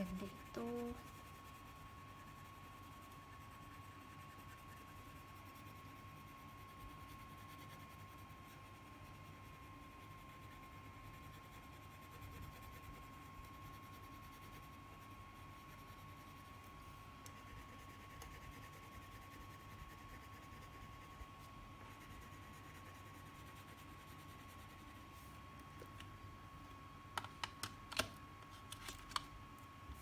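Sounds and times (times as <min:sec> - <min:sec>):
crayon scratching on paper: 0:00.0 - 0:25.4.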